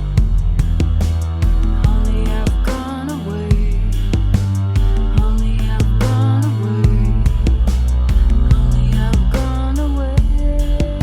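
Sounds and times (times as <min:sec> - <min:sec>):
song with heavy bass and steady beat: 0:00.0 - 0:11.0.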